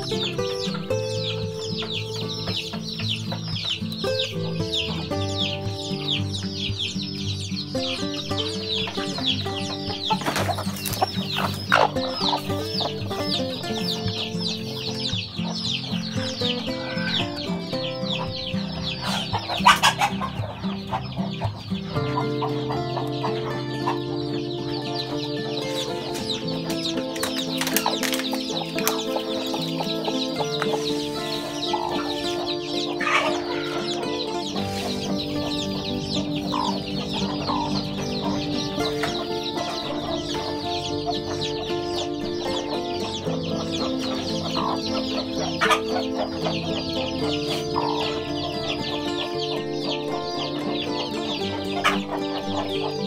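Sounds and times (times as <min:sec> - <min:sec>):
background music with held notes: 0:00.0 - 0:53.0
chicks peeping: 0:00.0 - 0:53.0.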